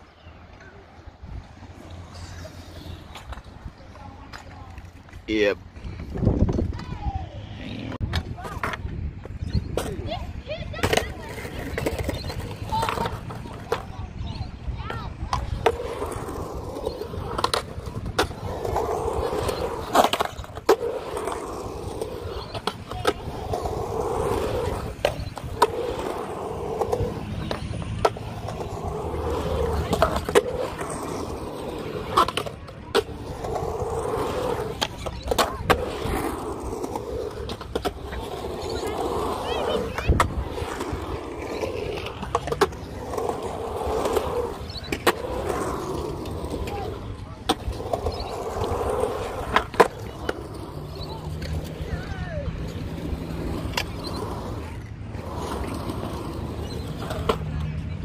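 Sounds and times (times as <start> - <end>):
skateboard wheels rolling on concrete: 0.0 - 58.0
skateboard clacks: 2.1 - 58.0.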